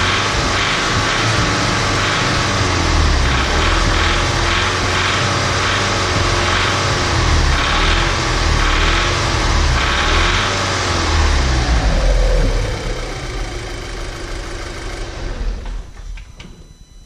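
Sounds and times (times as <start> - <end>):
car engine revving: 0.0 - 16.0
engine clatter: 0.0 - 16.4.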